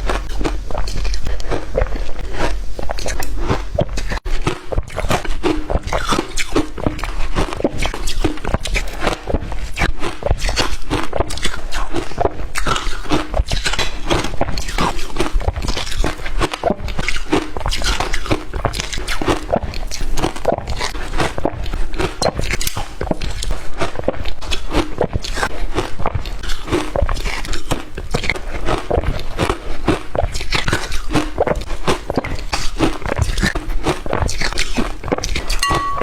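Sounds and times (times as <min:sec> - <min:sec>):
shaved ice crunching while chewed: 0:00.0 - 0:36.0.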